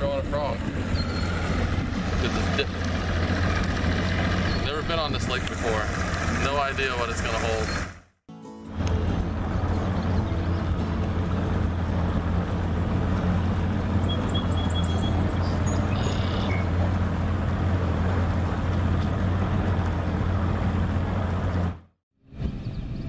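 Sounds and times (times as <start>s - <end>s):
boat motor running: 0.0s - 8.1s, 8.7s - 23.0s.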